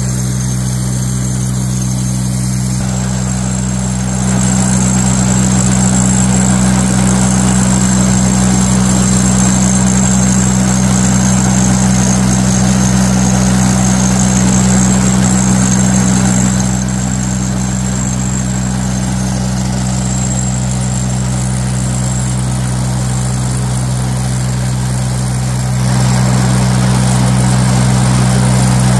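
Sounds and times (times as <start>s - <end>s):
machinery engine droning: 0.0s - 28.9s.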